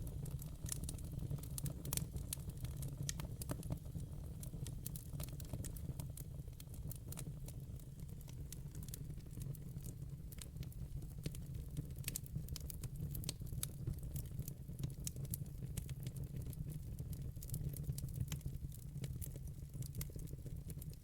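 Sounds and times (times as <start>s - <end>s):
low rumble of flames: 0.0s - 21.0s
logs crackling and popping: 0.2s - 21.0s.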